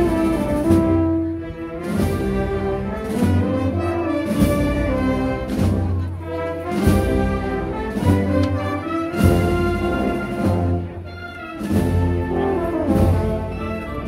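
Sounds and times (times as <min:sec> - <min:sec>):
brass band playing slow march: 0:00.0 - 0:14.0
low brass bass notes: 0:00.0 - 0:14.0.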